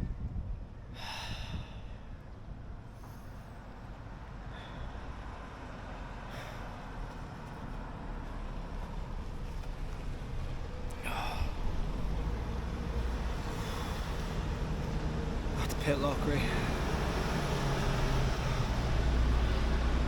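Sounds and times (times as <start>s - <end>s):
rumble of road traffic: 0.0s - 20.0s.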